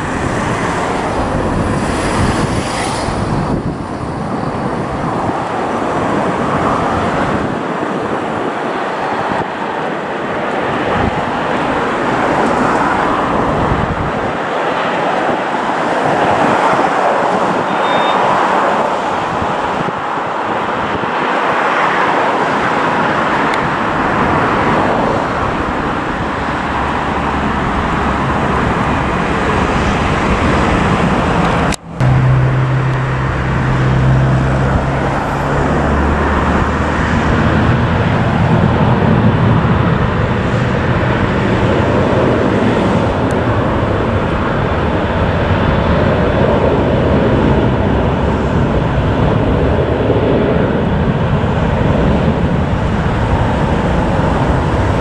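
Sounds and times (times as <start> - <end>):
jet engine rushing: 0.0 - 55.0
jet engines low hum: 0.0 - 55.0.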